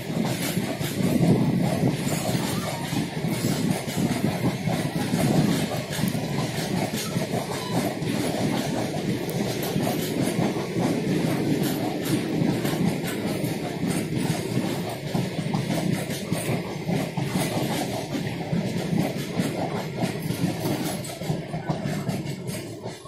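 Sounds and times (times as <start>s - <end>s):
rumble of train wheels on rail: 0.0s - 23.0s
wheels clicking over rail joints: 0.0s - 23.0s.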